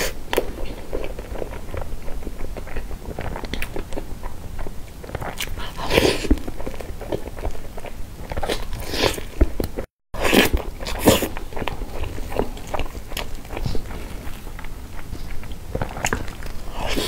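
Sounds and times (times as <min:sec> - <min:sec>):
wet chewing: 0:00.0 - 0:17.0.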